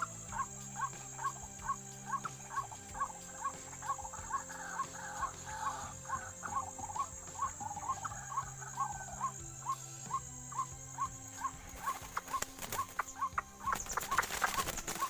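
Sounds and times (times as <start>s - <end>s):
steady high-pitched whine: 0.0s - 15.0s
waterhen calling: 0.0s - 15.0s.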